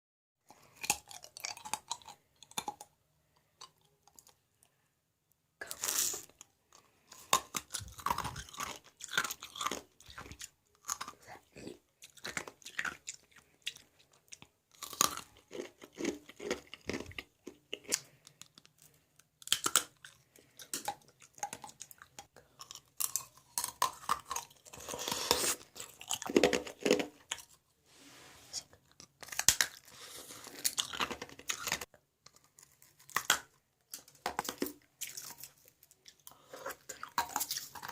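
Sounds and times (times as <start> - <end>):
ice being chewed: 5.6 - 27.6, 28.8 - 33.4, 34.0 - 37.9.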